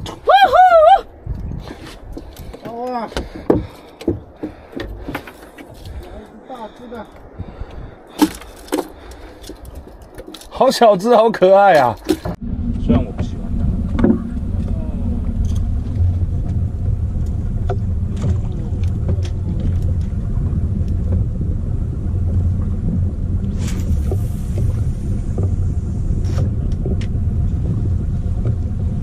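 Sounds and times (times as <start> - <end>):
boat engine rumbling: 0.0 - 29.0.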